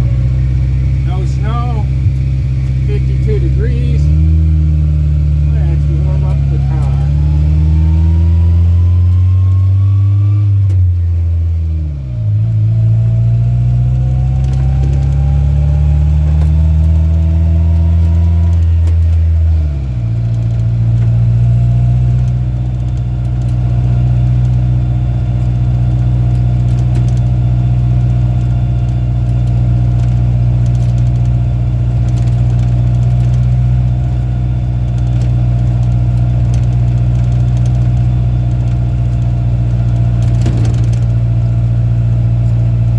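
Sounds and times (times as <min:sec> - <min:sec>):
truck engine revving through gears: 0:00.0 - 0:42.9.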